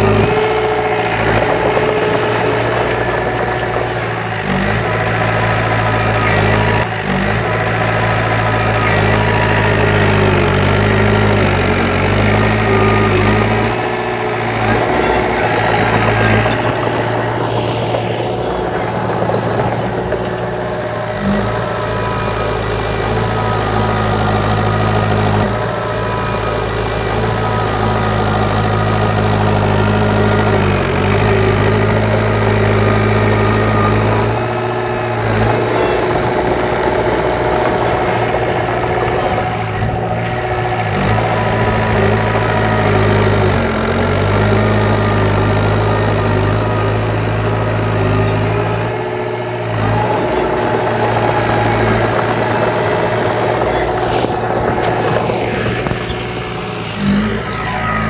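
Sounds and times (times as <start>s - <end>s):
diesel engine of construction machine: 0.0s - 58.0s.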